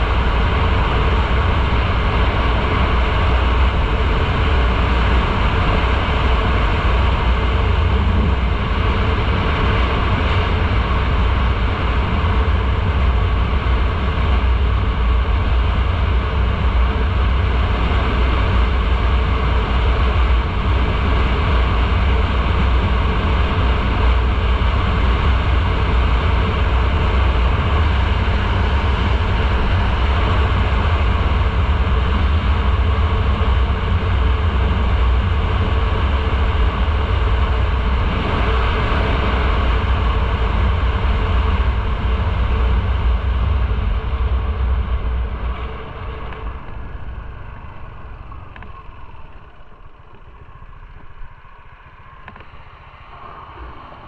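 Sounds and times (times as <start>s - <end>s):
rushing wind: 0.0s - 54.0s.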